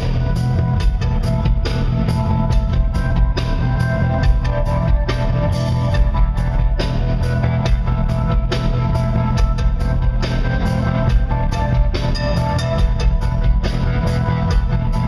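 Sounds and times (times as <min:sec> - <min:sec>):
live blues-rock band: 0:00.0 - 0:15.0.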